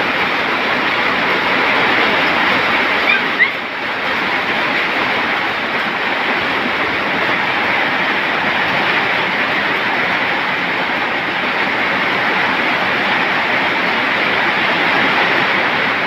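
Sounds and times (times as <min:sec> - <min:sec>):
loud steady rushing noise: 0:00.0 - 0:16.0.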